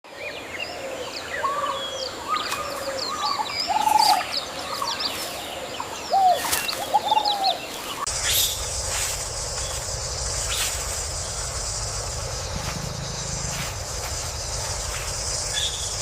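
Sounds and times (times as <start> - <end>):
steady outdoor hiss: 0.1 - 16.0
birds chirping and whistling: 1.4 - 16.0.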